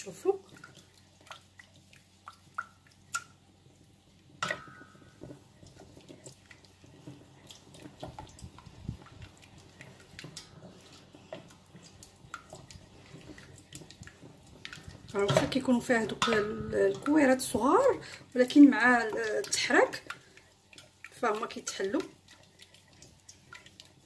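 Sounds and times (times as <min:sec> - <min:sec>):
spoon stirring sauce: 0:04.4 - 0:24.0.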